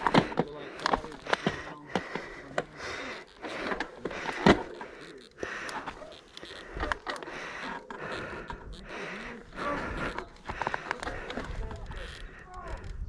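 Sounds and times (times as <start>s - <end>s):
tyres rolling over dirt and stones: 0.0s - 12.4s
bike rattling: 0.0s - 13.0s.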